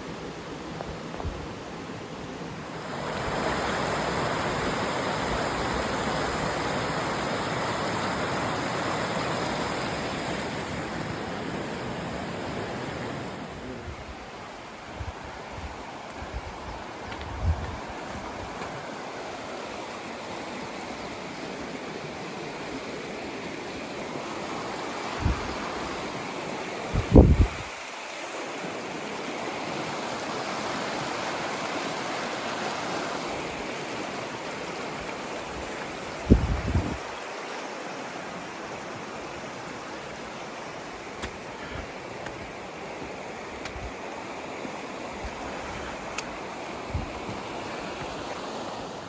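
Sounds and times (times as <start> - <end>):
rushing stream water: 0.0 - 49.0.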